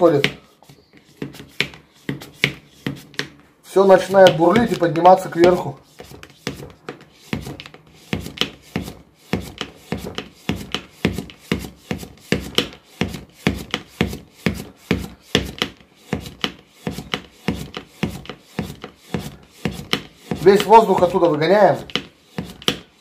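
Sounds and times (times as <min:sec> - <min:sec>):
hand vacuum pump strokes: 0:03.9 - 0:23.0.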